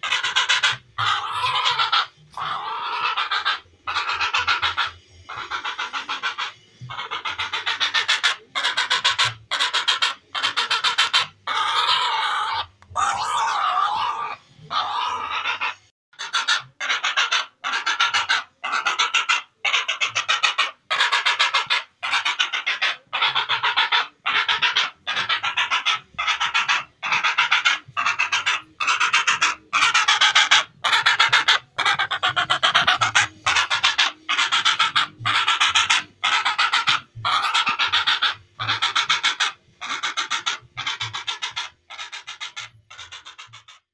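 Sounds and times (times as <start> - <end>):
heron calling: 0.0 - 43.9.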